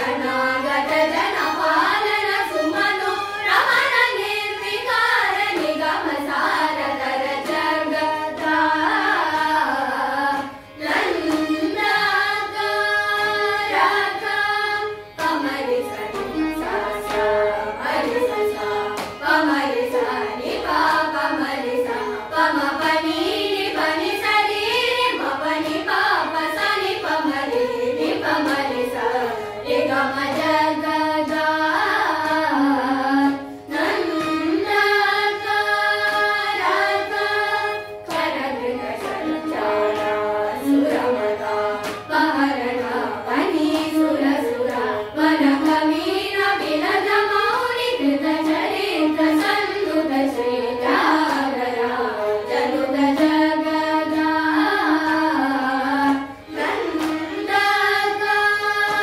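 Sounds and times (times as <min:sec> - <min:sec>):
group of young voices singing: 0:00.0 - 0:59.0
violins: 0:00.0 - 0:59.0.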